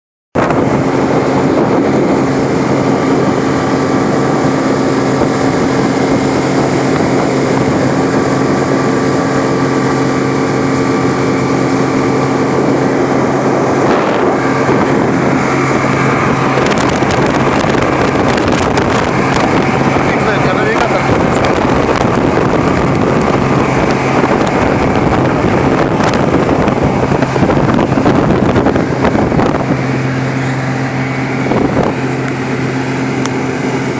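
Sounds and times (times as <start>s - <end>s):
outboard motor running: 0.4s - 33.9s
wind noise on microphone: 0.4s - 33.9s.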